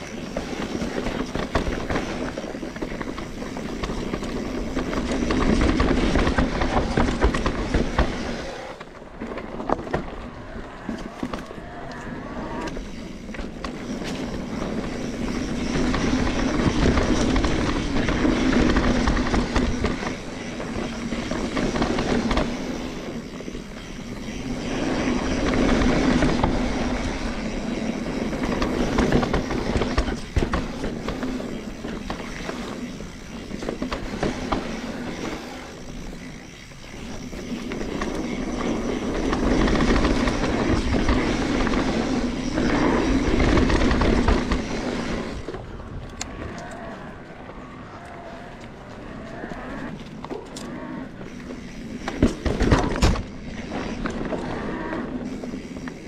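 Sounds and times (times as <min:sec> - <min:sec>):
bike chain rattling: 0:00.0 - 0:08.5, 0:12.8 - 0:45.4, 0:50.5 - 0:56.0
bike tyres on dirt trail: 0:00.0 - 0:56.0.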